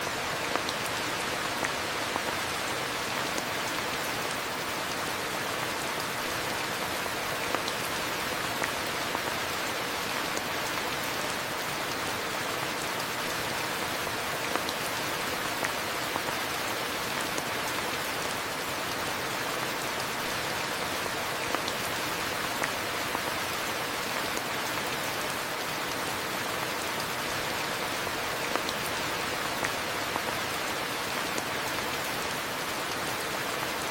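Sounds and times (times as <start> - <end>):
raindrops hitting surfaces: 0.0 - 33.9
steady rain hiss: 0.0 - 33.9.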